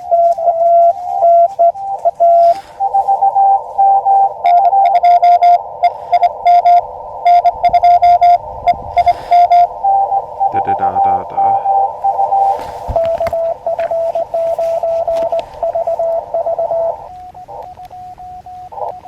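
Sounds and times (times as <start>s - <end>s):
morse code beeps: 0.0s - 19.0s
radio receiver hiss: 0.0s - 19.0s.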